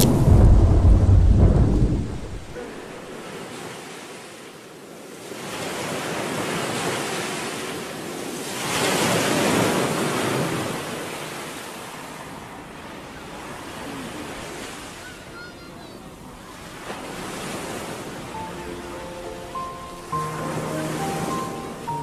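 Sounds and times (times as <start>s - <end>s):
surf breaking on a beach: 0.0s - 22.0s.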